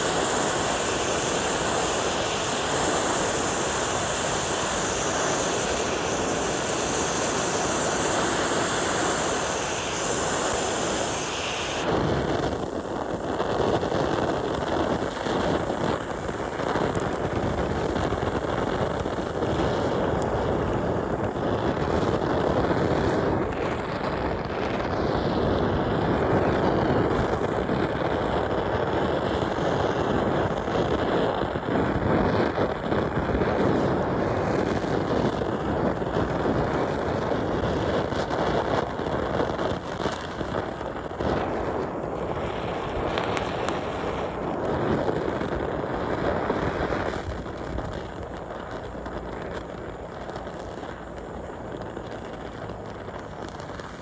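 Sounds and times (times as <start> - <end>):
gas burner flame roaring: 0.0 - 54.0.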